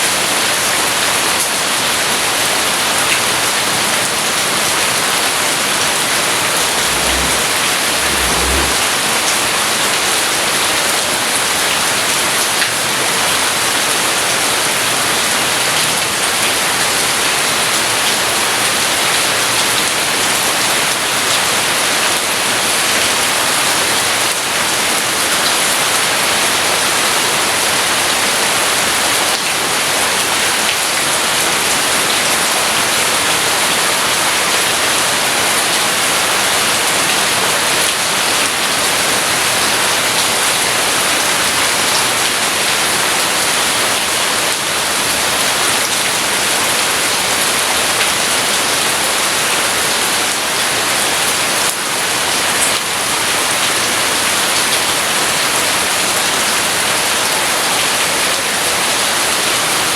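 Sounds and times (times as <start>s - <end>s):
heavy rain pattering: 0.1s - 59.9s.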